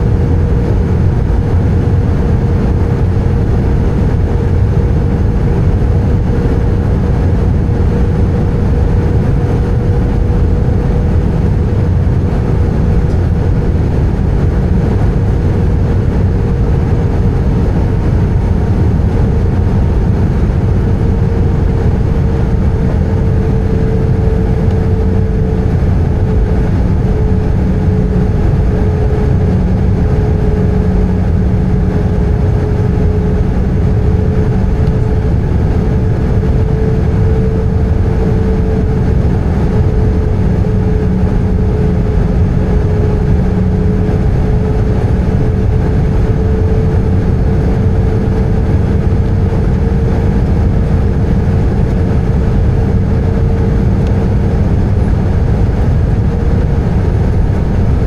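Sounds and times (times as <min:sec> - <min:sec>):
jet engine and airflow roar: 0:00.0 - 0:58.0
steady droning tone: 0:00.0 - 0:58.0.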